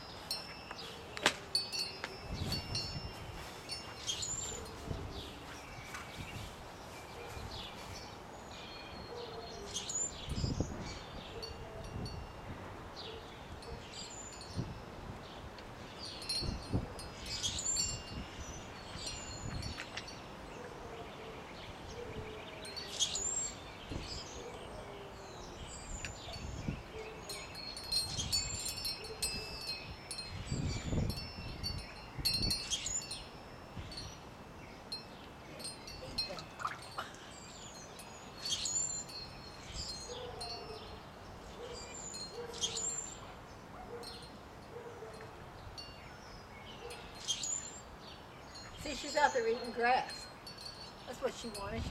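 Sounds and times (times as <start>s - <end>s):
wind chimes ringing: 0.0s - 5.6s, 9.8s - 20.5s, 22.4s - 24.4s, 25.7s - 43.4s, 44.0s - 51.9s
birds chirping: 0.0s - 51.9s.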